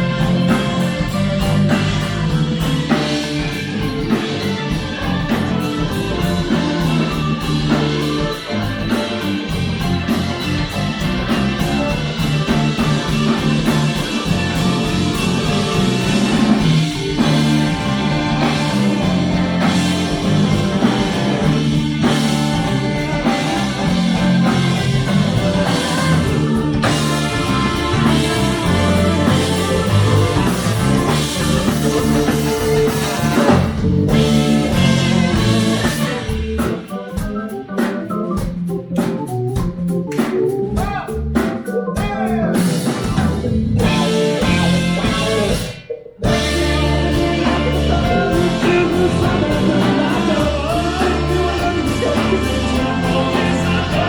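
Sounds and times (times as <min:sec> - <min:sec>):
drum kit steady beat: 0:00.0 - 0:54.0
guitars: 0:00.0 - 0:54.0.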